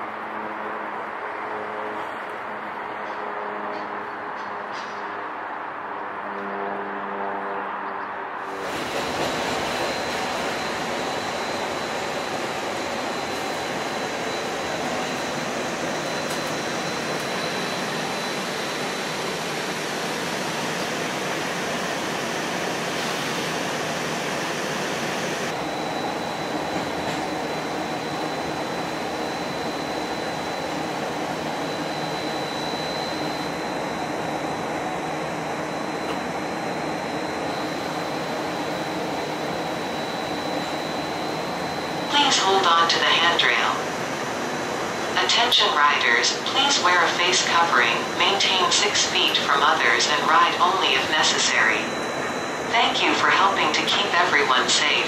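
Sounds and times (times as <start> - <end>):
high-pitched whine: 6.4 - 55.0
streetcar rumbling on rails: 8.0 - 55.0.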